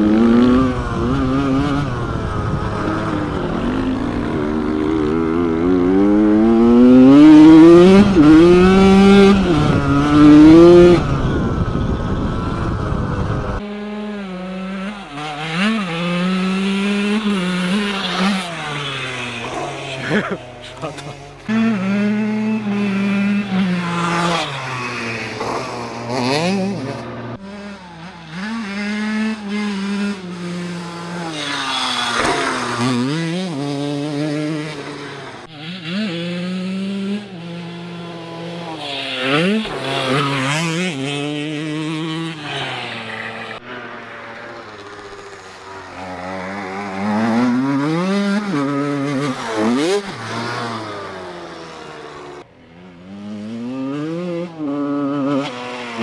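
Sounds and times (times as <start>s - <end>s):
two-stroke motorbike engine revving: 0.0s - 56.0s.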